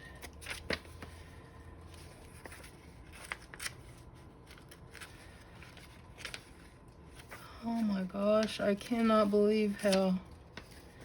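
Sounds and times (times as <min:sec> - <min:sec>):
paper crinkles: 0:00.0 - 0:11.0
paper pages rustling: 0:00.0 - 0:11.0.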